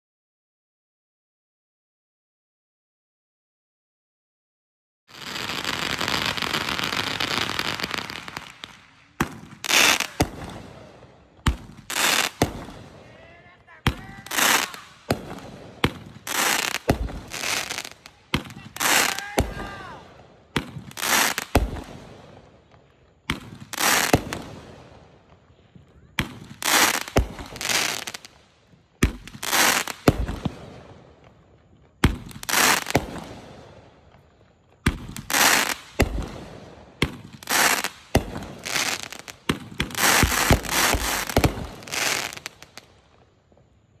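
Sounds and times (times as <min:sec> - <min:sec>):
firework shots with crackling: 0:05.1 - 0:44.0.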